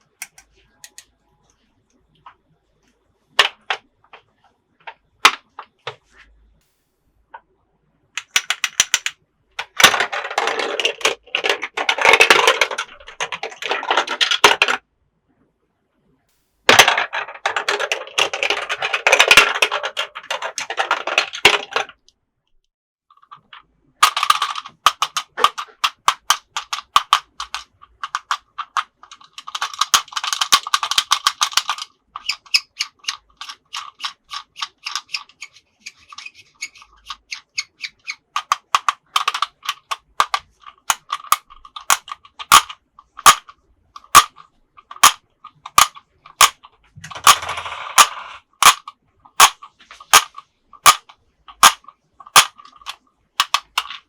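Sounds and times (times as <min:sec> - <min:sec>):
plastic toy parts clicking: 0:00.0 - 0:01.1, 0:08.2 - 0:14.8, 0:16.7 - 0:22.1, 0:23.1 - 0:54.0.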